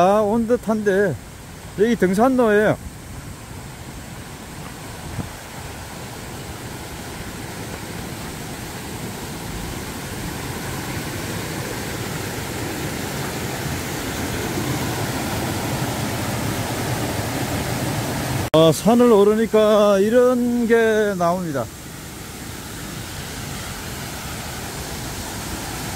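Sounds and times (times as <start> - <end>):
stream rushing over boulders: 0.0 - 25.9.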